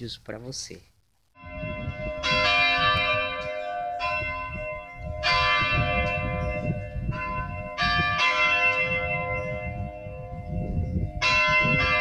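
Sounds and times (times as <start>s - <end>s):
bells ringing: 1.4s - 12.0s.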